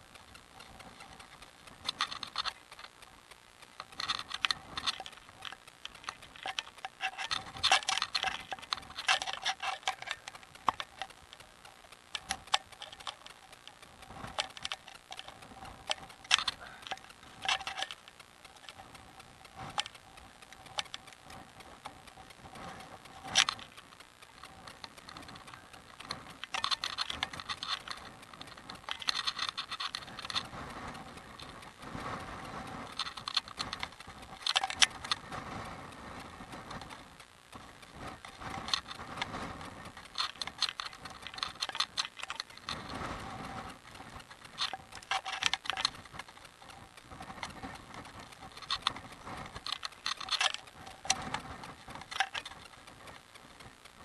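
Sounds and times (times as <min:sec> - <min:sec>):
bicycle rattling and clicking: 0:00.0 - 0:54.0.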